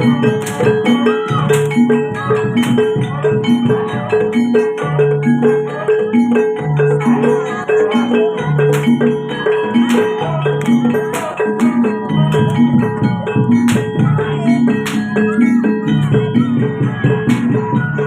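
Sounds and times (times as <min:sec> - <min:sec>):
metallophones ringing repeating pattern: 0:00.0 - 0:18.0
sharp percussion strokes: 0:00.0 - 0:18.0.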